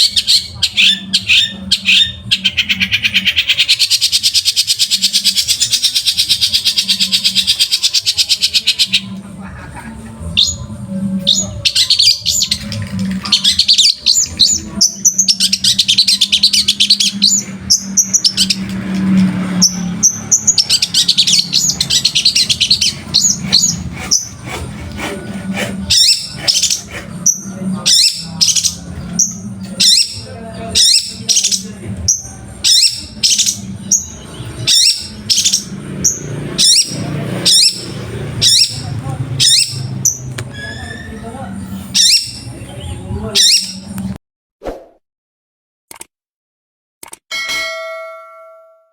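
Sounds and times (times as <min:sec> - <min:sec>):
bird chattering song: 0:00.0 - 0:09.2, 0:10.3 - 0:44.1.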